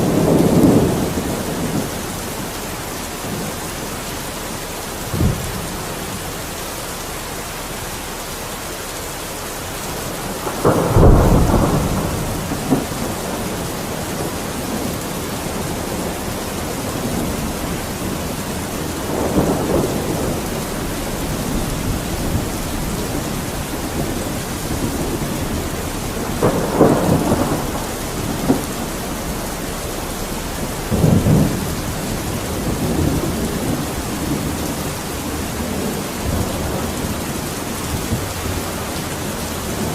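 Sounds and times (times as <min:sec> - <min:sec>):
thunder rumbling: 0:00.0 - 0:08.2, 0:09.2 - 0:39.9
heavy rain: 0:00.0 - 0:39.9.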